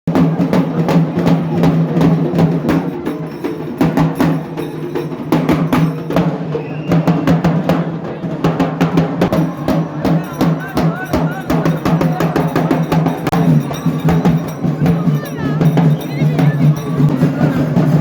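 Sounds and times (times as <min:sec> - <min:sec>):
drums beating fast: 0:00.1 - 0:18.0.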